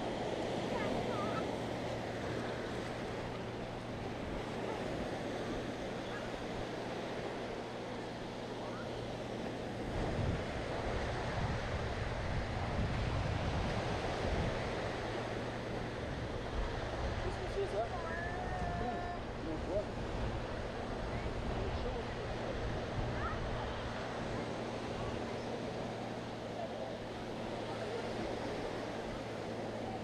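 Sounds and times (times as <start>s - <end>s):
waves washing onto beach: 0.0s - 30.0s.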